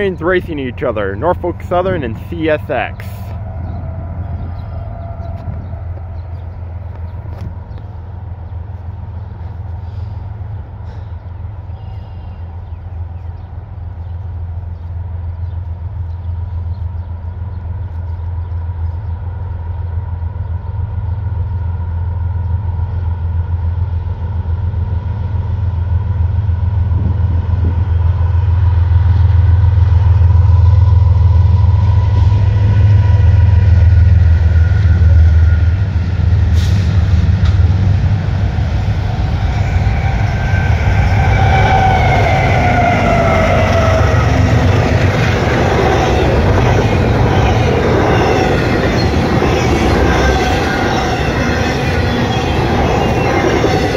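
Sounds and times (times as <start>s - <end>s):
locomotive engine rumble: 0.0s - 53.9s
locomotive high whine: 0.0s - 53.9s.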